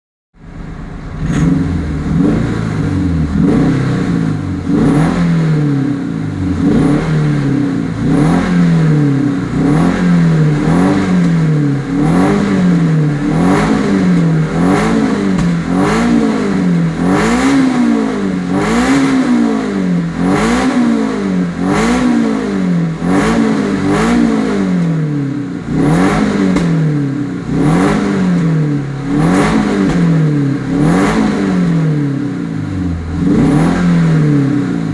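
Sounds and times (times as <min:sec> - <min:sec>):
car engine revving: 0:00.4 - 0:34.9.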